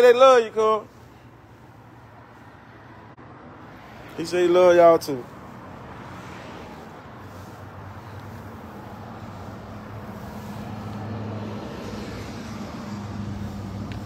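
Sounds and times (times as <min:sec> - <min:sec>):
traffic noise: 0:00.0 - 0:14.0
vehicle engine idling: 0:00.5 - 0:14.0.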